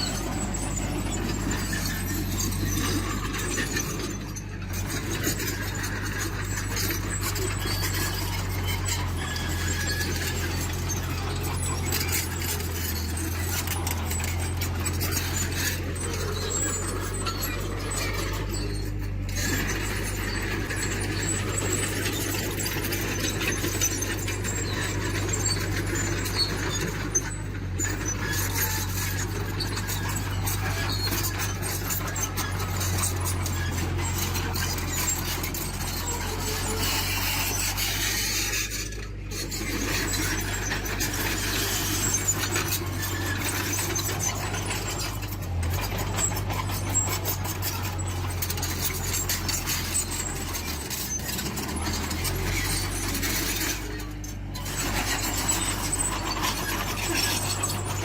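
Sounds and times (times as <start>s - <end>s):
diesel engine running: 0.0s - 58.0s
machinery squealing and clicking: 0.0s - 58.0s.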